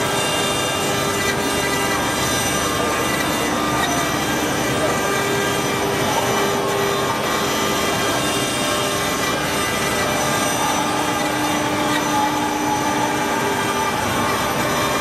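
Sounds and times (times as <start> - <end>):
cutter grinding stone: 0.0 - 15.0
machine whining tones: 0.0 - 15.0.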